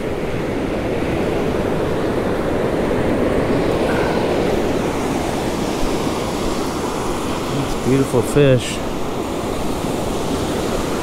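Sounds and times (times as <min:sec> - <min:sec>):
ocean surf washing up beach: 0:00.0 - 0:11.0.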